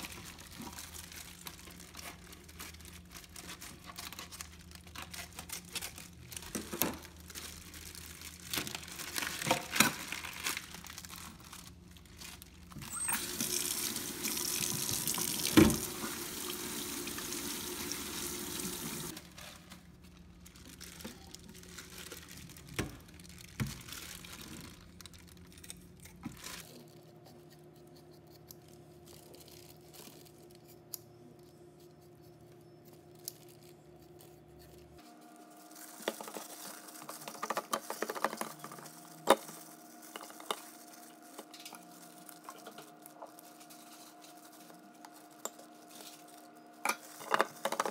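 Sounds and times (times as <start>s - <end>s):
plastic wrapping crinkling: 0.0s - 27.0s, 28.6s - 30.9s, 32.6s - 47.9s.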